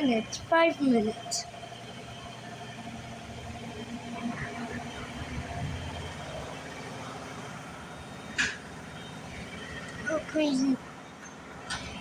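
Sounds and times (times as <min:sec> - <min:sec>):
washing machine motor and drum hum: 0:00.0 - 0:12.0.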